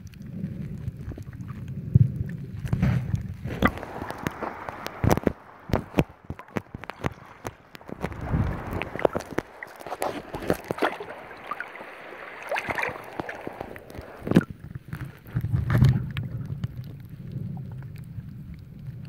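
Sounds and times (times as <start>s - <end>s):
water sloshing and splashing: 0.0s - 18.0s
muffled underwater rumble: 0.0s - 19.0s.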